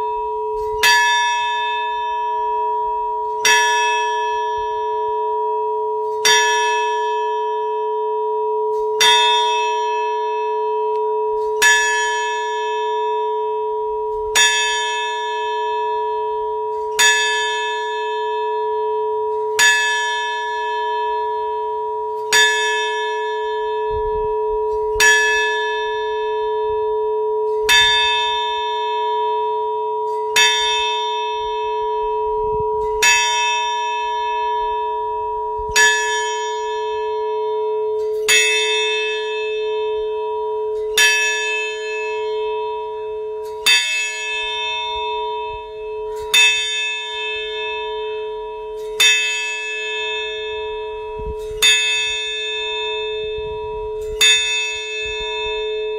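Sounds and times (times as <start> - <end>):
large bell ringing: 0.0 - 55.9.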